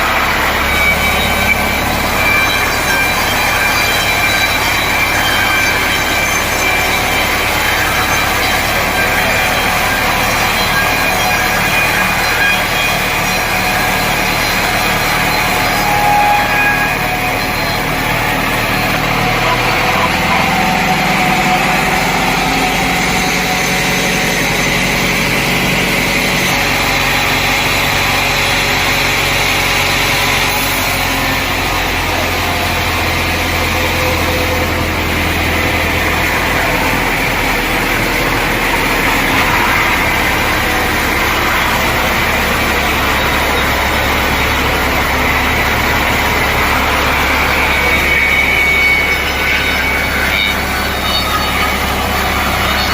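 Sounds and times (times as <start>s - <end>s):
sawmill machinery droning: 0.0s - 52.9s.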